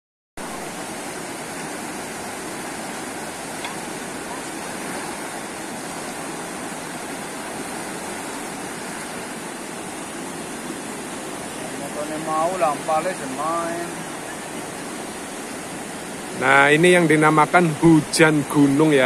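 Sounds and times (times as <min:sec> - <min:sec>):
river torrent rushing: 0:00.4 - 0:19.0.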